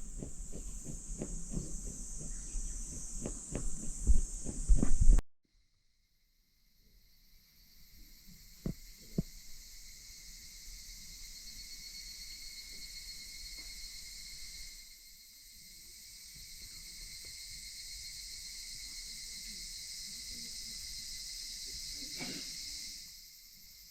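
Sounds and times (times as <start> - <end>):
insects trilling: 0.0 - 5.2, 6.1 - 23.9.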